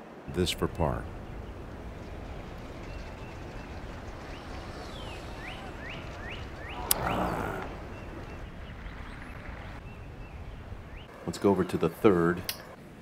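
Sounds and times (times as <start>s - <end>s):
outdoor background noise: 0.0s - 13.0s
bird chirping: 0.4s - 12.8s.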